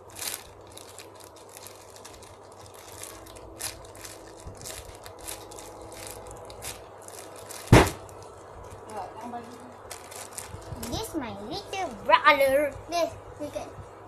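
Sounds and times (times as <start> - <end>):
squishy toy rustling and crinkling: 0.0 - 12.8.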